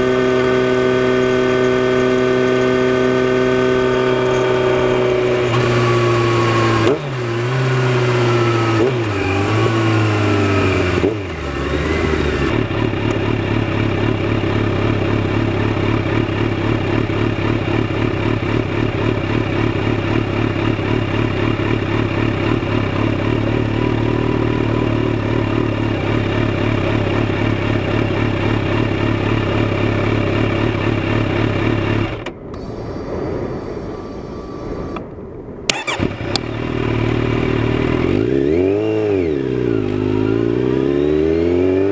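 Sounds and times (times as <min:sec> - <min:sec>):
motorcycle engine running: 0:00.0 - 0:33.2, 0:35.7 - 0:41.9.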